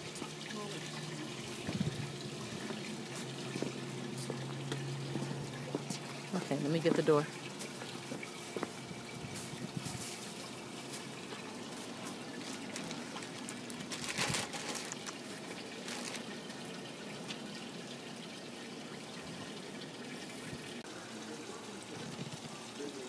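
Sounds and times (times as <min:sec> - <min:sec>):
water trickling: 0:00.0 - 0:23.0.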